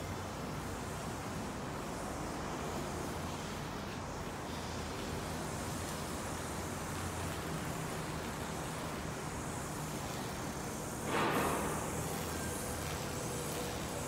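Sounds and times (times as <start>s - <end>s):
urban background hum: 0.0s - 14.0s.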